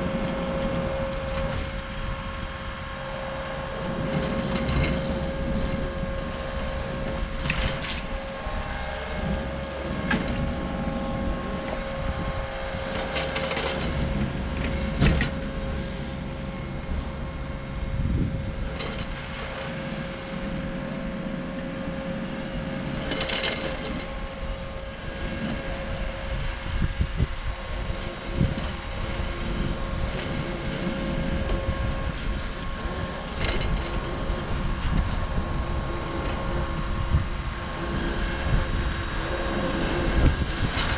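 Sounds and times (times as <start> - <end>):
constant whine: 0.0 - 40.9
track loader engine drone: 0.0 - 40.9.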